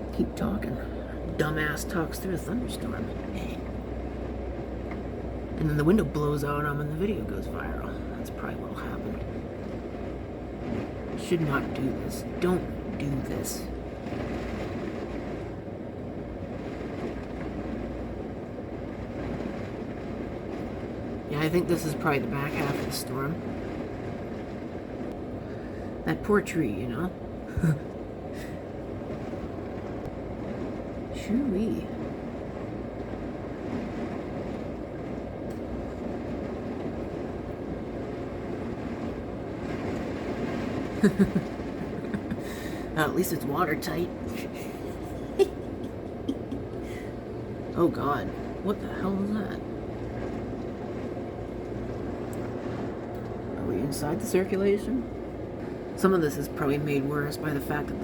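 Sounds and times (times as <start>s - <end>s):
rain: 0.0s - 58.0s
wind: 0.0s - 58.0s.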